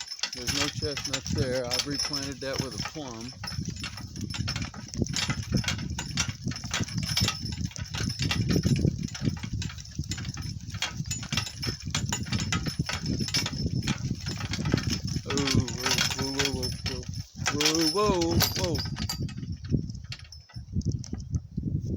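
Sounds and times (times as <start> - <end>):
cart rolling over bumpy ground: 0.0 - 21.4.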